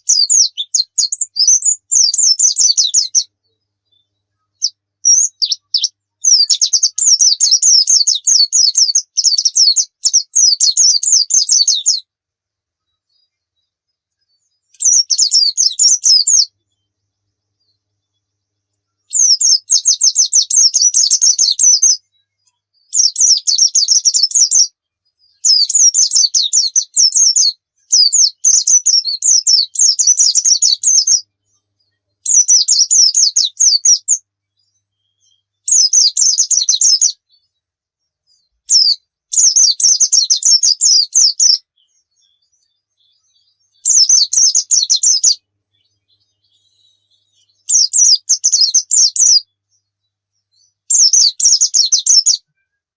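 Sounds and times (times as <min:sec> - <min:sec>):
bird twittering song: 0:00.0 - 0:52.9.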